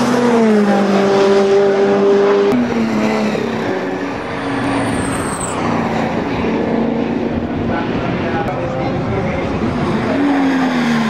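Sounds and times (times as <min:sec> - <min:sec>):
racing car engines passing: 0:00.0 - 0:11.0.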